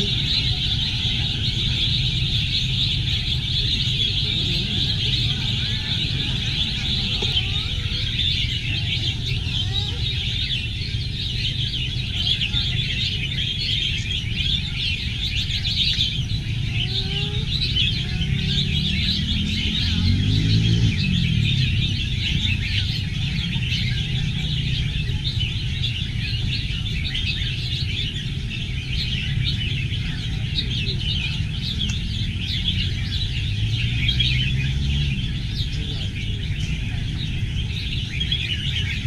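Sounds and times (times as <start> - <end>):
birds chirping and whistling: 0.0 - 39.0.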